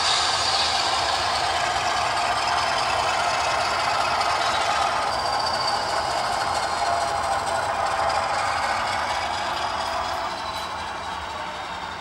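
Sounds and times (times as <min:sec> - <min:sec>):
model locomotive running: 0:00.0 - 0:12.0.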